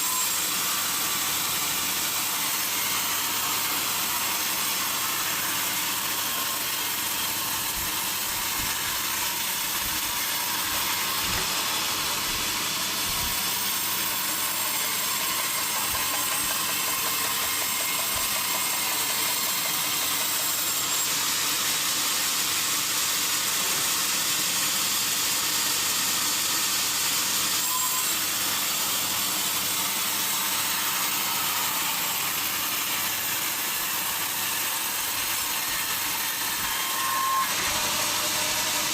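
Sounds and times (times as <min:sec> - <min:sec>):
sawmill saw hissing: 0:00.0 - 0:38.9.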